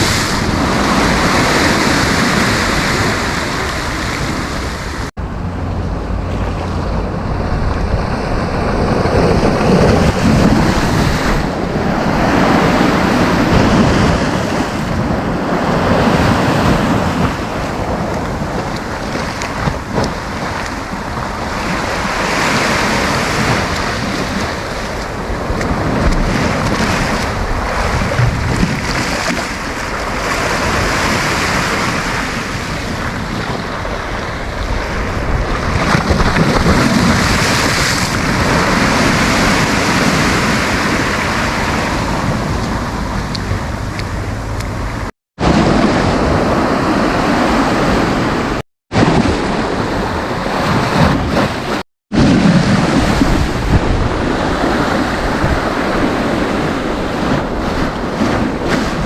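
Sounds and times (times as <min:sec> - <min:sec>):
sea surf breaking: 0:00.0 - 0:59.0
wind rumbling on microphone: 0:00.0 - 0:59.0.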